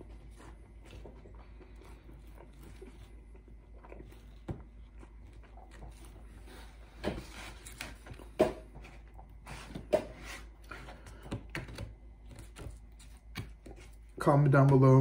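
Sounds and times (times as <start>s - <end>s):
chewing pizza: 0.0s - 15.0s.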